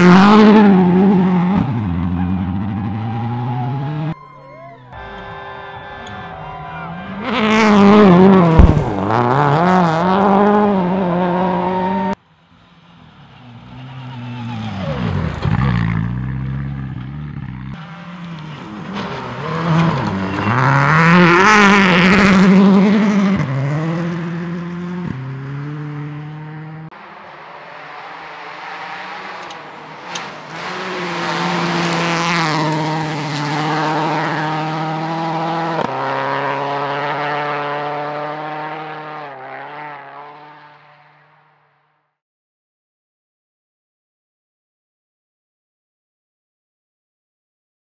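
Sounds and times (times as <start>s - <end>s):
rally car engines passing: 0.0s - 41.7s.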